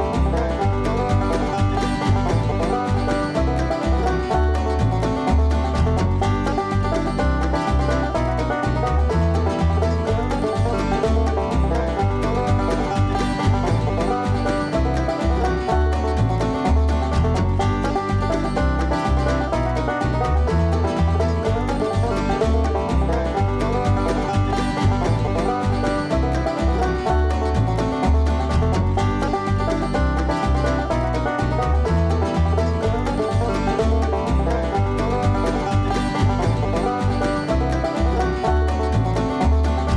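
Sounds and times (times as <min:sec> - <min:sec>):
bluegrass string-band music: 0:00.0 - 0:39.9.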